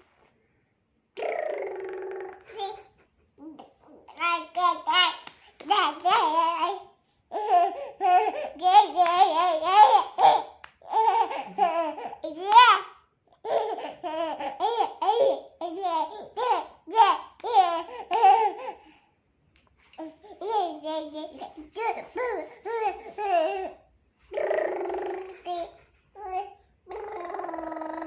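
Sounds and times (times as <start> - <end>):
toddler laughing and babbling: 1.2 - 18.8, 20.0 - 28.0.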